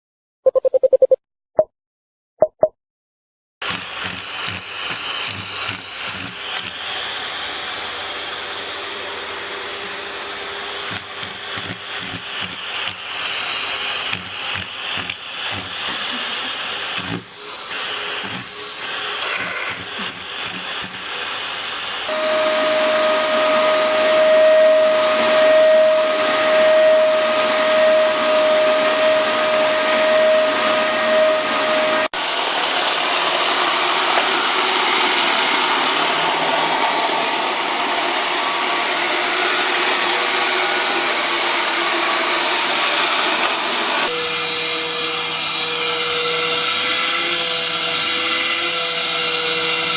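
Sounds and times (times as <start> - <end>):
vacuum cleaner running: 3.6 - 49.9.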